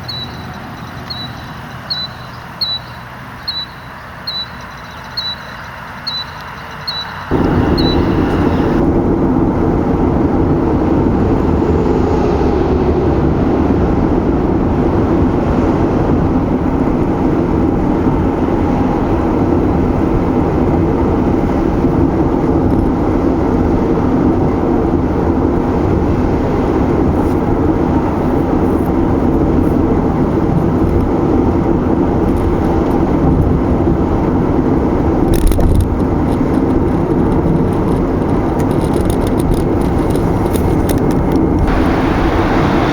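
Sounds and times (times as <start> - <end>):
car tyre and engine noise: 0.0 - 42.9.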